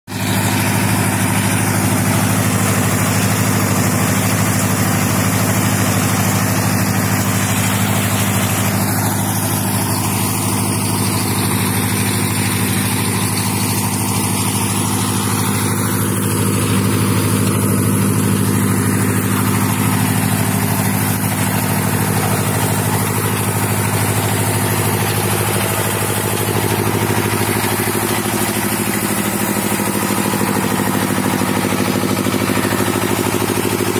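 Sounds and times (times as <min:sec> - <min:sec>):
drilling rig engine droning: 0:00.1 - 0:33.9.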